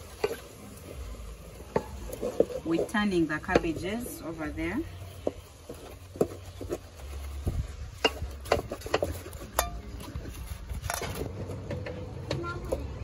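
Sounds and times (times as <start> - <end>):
spatula stirring cabbage in saucepan: 0.0 - 11.6.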